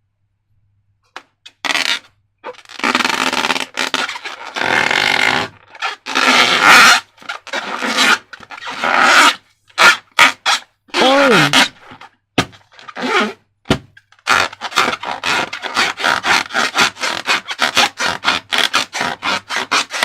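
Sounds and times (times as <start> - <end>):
rubbery scraping and squishing: 1.5 - 20.0.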